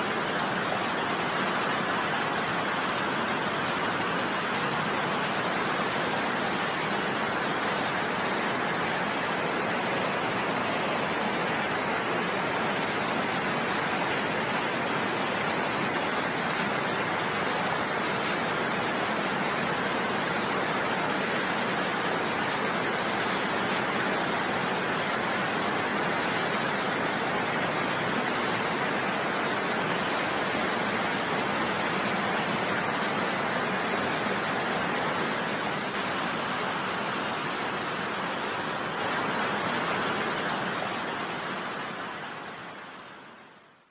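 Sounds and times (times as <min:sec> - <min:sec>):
waterfall and stream rushing: 0:00.0 - 0:43.9.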